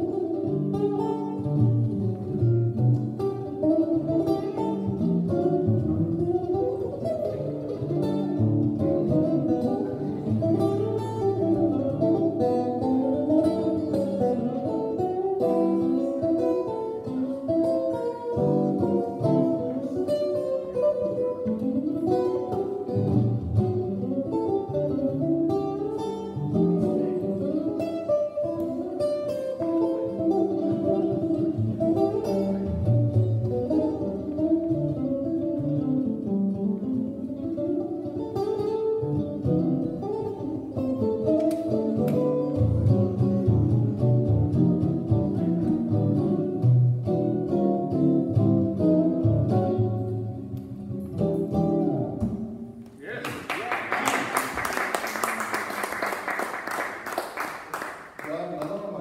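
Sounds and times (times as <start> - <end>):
solo guitar playing: 0.0 - 53.0.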